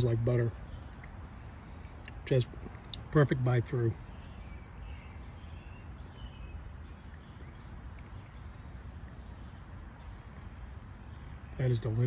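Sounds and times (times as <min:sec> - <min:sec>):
faint bird chirps: 0:00.0 - 0:12.0
low outdoor hum: 0:00.0 - 0:12.0.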